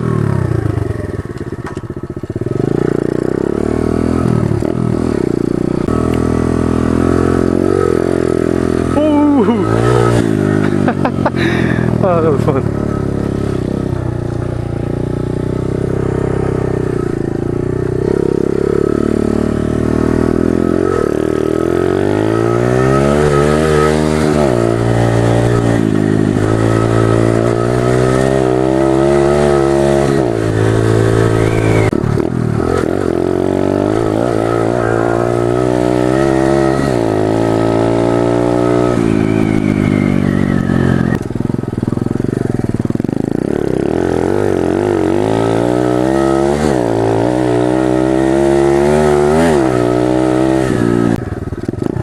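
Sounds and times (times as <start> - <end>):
small motorbike engine revving: 0.0 - 52.0.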